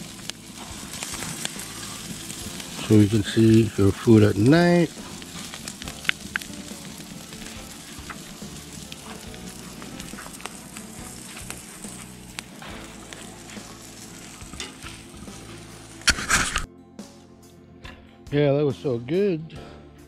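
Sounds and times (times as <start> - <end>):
food sizzling with crackles: 0.0 - 16.7.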